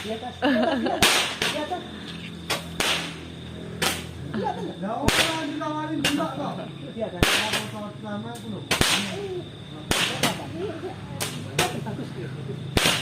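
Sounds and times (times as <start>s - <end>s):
small fireworks cracking: 0.0s - 13.0s.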